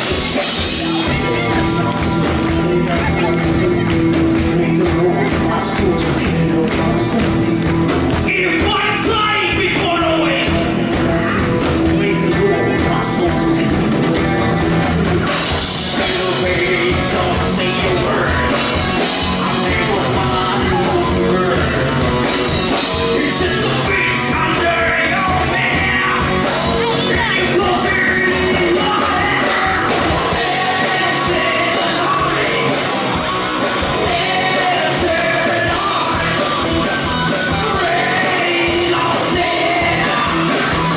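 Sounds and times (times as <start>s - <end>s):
drums: 0.0s - 40.9s
electric bass: 0.0s - 40.9s
electric guitar: 0.0s - 40.9s
people singing and shouting: 0.0s - 40.9s.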